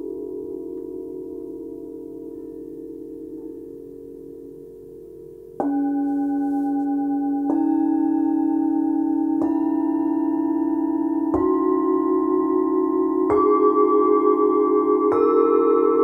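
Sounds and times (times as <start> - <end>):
singing bowls struck with mallet: 0.0 - 16.0.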